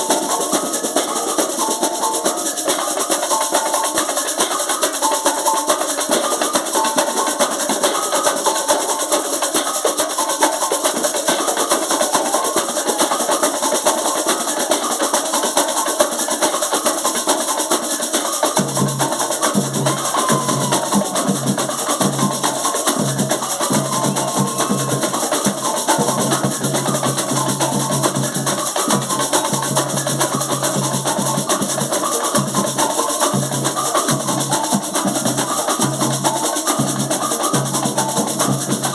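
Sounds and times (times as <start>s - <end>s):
band playing percussion-led music: 0.0s - 38.9s.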